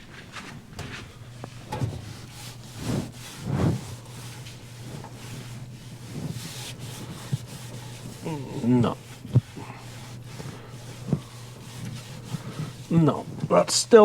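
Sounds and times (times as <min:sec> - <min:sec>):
hand scrubbing oven interior: 0:00.0 - 0:14.0
steady low hum: 0:00.0 - 0:14.0.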